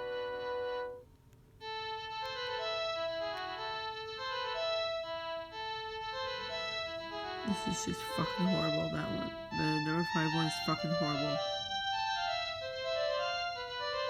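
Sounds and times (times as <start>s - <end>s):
electronic phone ringtone melody: 1.6s - 14.0s.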